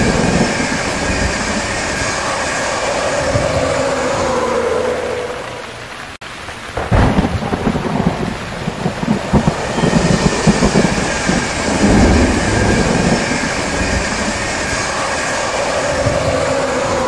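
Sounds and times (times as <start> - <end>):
faint train whine: 0.0 - 6.2, 7.8 - 17.0
train rumbling past: 0.0 - 6.2, 7.4 - 17.0.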